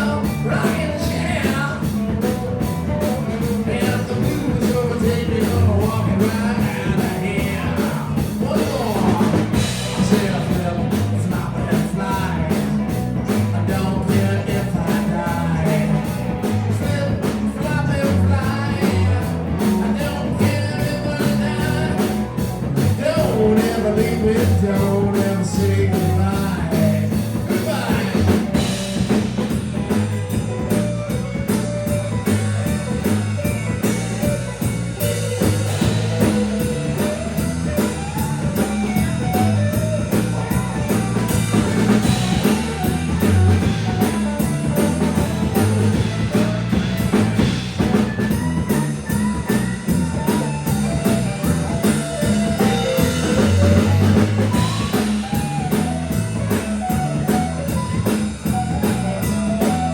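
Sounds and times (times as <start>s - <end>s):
rhythm and blues band playing: 0.0s - 59.9s.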